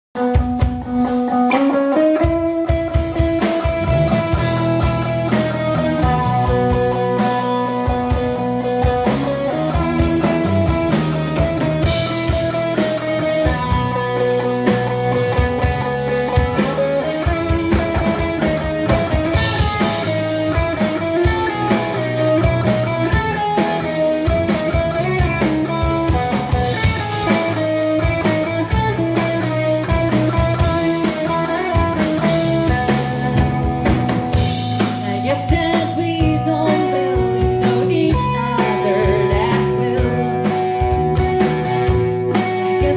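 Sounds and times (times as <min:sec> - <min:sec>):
drum kit beat: 0:00.2 - 0:42.9
electric guitars and bass: 0:00.2 - 0:42.9.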